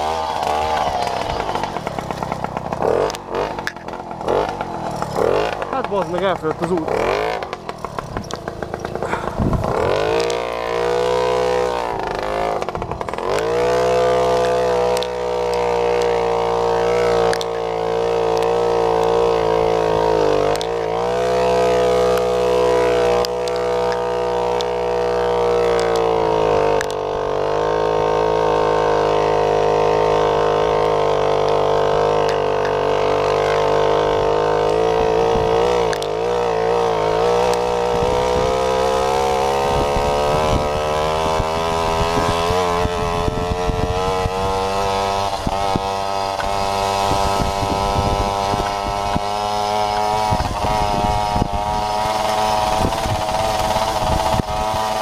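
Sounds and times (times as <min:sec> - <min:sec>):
moped engine revving: 0:00.0 - 0:55.0.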